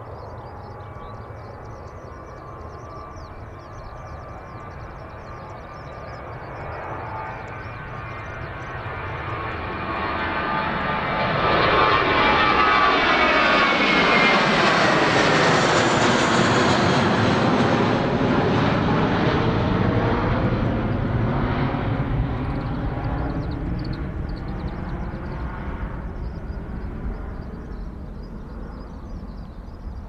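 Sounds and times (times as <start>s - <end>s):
jet airliner passing by: 0.0s - 30.0s.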